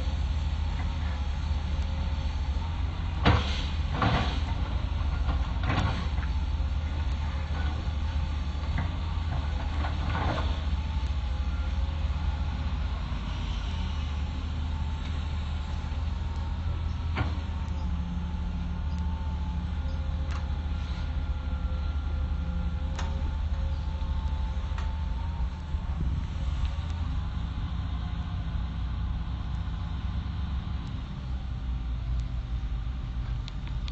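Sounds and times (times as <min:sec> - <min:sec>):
excavator engine rumble: 0:00.0 - 0:33.9.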